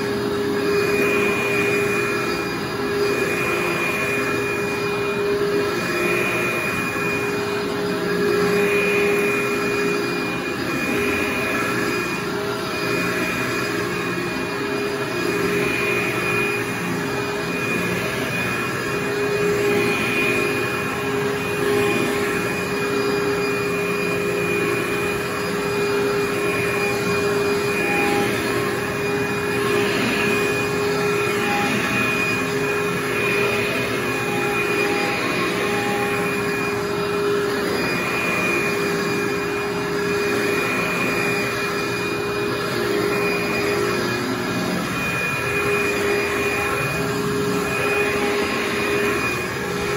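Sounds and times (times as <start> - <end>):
vacuum cleaner motor whine: 0.0 - 49.9.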